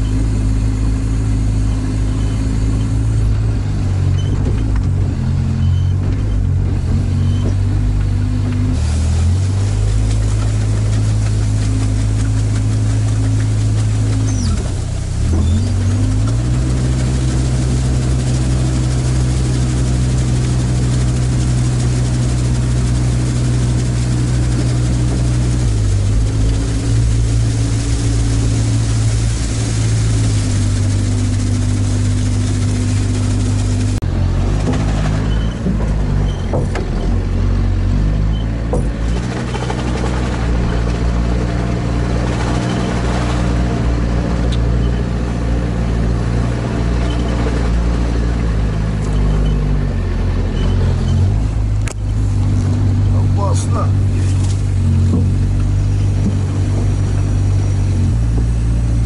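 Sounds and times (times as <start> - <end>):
rough engine drone: 0.0 - 59.0
vehicle engine running: 0.0 - 59.0.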